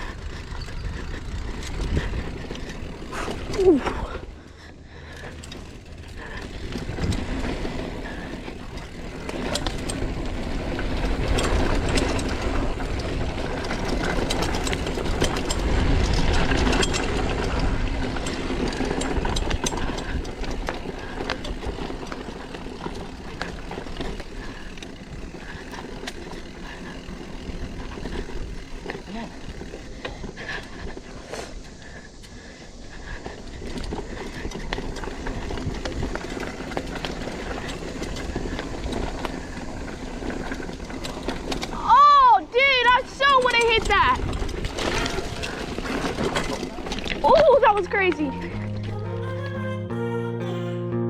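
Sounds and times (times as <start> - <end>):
bike rattling over bumps: 0.0 - 48.6
bike tyres rolling on dirt: 0.0 - 49.0.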